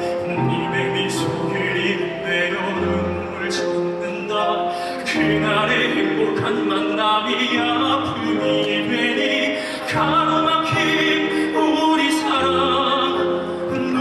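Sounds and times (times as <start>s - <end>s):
instrumental accompaniment: 0.0s - 14.0s
man singing into a microphone: 0.0s - 14.0s.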